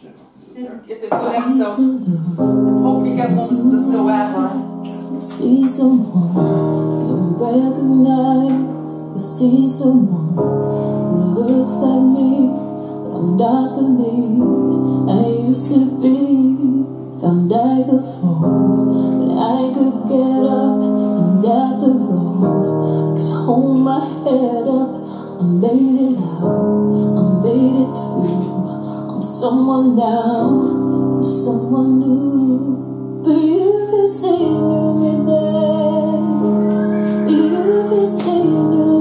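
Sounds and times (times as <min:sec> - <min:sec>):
pop song over stereo speakers: 0:01.1 - 0:39.0.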